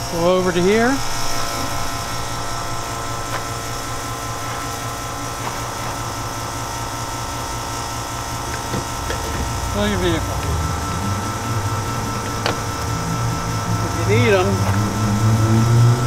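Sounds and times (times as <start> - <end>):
pump motor humming: 0.0 - 16.0.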